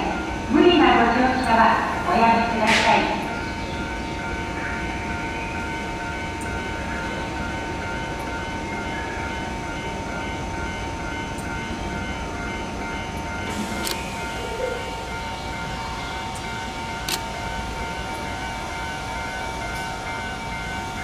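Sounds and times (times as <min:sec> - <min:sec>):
train equipment hum and whine: 0:00.0 - 0:21.0.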